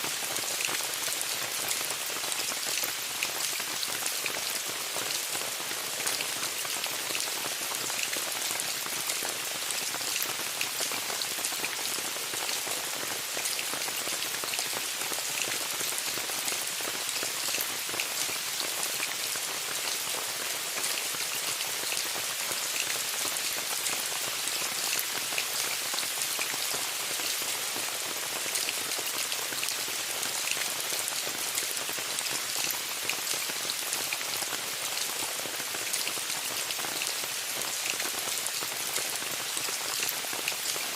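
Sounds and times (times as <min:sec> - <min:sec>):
rain pattering on a tent: 0:00.0 - 0:40.9.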